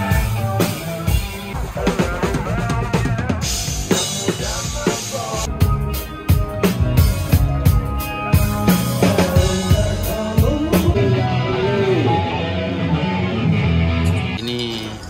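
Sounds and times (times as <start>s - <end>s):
electric guitar bending notes: 0.0s - 15.0s
steady bass: 0.0s - 15.0s.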